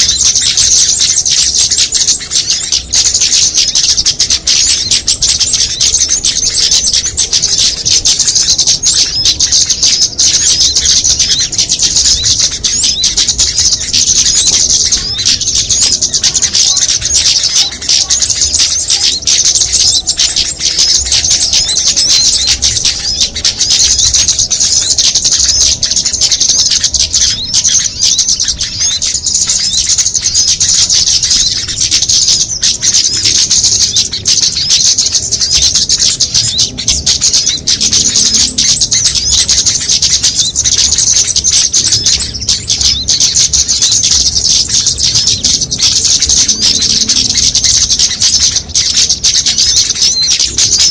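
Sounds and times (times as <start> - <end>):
small songbirds chirping and trilling: 0.0 - 50.9.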